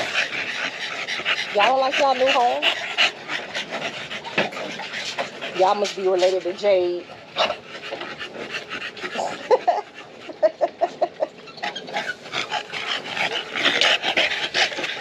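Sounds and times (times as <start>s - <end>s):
dogs panting: 0.0s - 15.0s.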